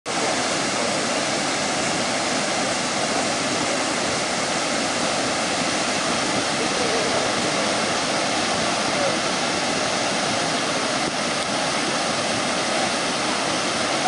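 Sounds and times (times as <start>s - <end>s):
floodwater rushing and churning: 0.1s - 14.0s.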